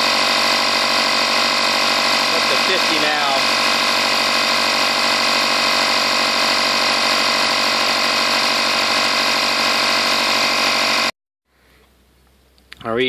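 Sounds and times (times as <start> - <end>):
air compressor running: 0.0 - 11.1.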